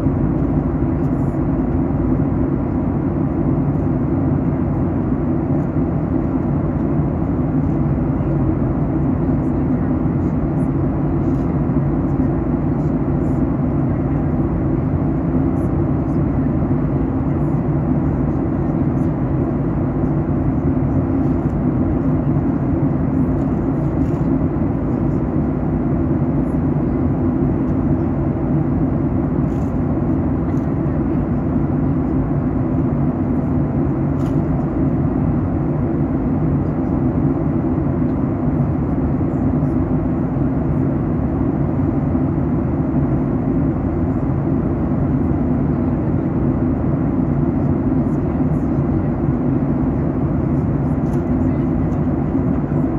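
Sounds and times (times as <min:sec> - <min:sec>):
airplane cabin drone: 0:00.0 - 0:52.9.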